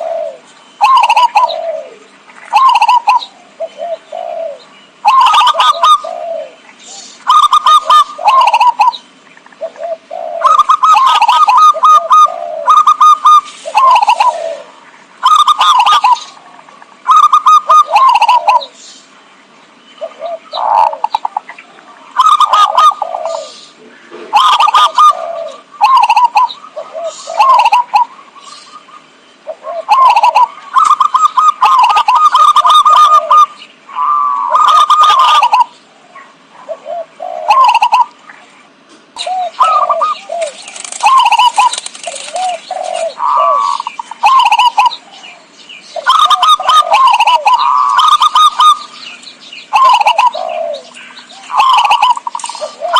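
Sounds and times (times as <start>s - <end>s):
dove cooing in staccato notes: 0.0s - 18.8s, 20.0s - 52.9s.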